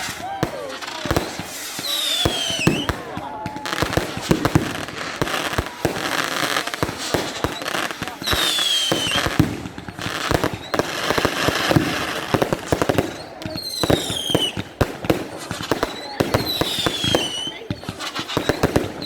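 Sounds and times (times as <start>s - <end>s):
falling firework whistle: 0.0s - 19.0s
fireworks bangs and crackles: 0.0s - 19.0s.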